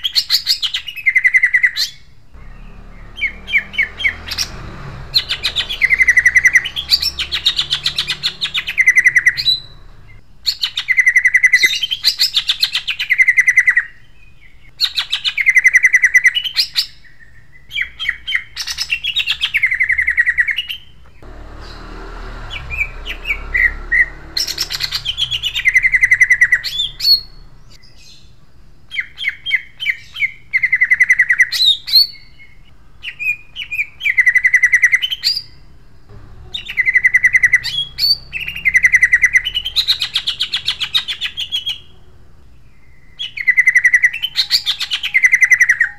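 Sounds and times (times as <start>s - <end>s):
bird singing: 0.0s - 45.9s.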